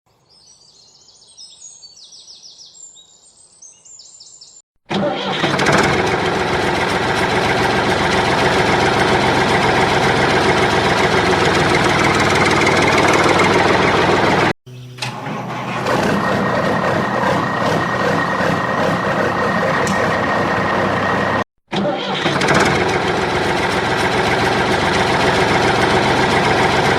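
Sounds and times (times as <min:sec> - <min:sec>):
engine running loud: 0:05.0 - 0:26.9.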